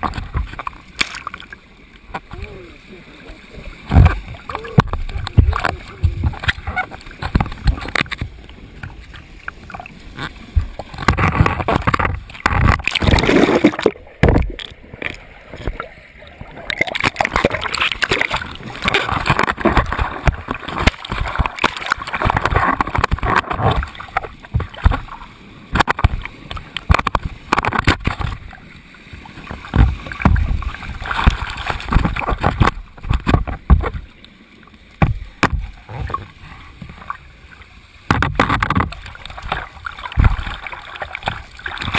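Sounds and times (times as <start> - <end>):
water splashing and churning: 0.0 - 41.9.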